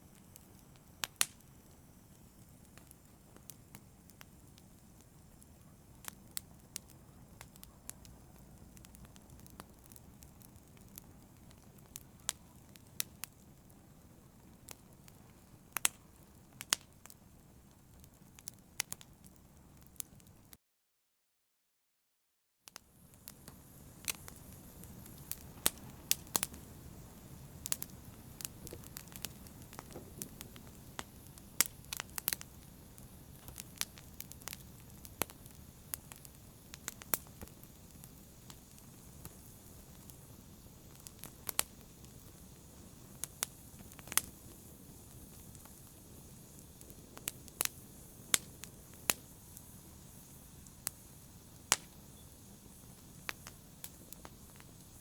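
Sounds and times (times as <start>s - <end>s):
fire pops and snaps: 0.0s - 20.4s, 22.7s - 55.0s
soft continuous hiss: 0.0s - 20.4s, 22.7s - 55.0s
fire crackling: 0.0s - 20.6s, 22.7s - 55.0s.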